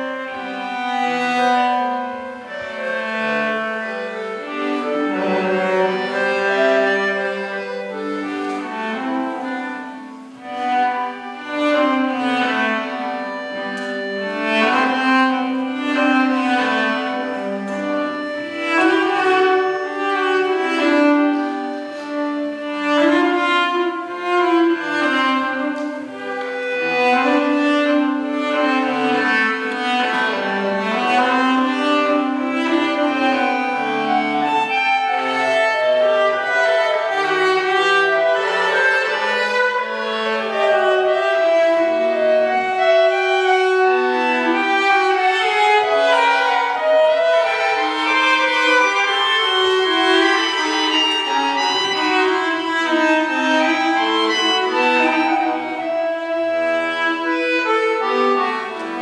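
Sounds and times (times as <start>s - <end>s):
accordion chords: 0.0s - 59.0s
bowed cello: 0.0s - 59.0s.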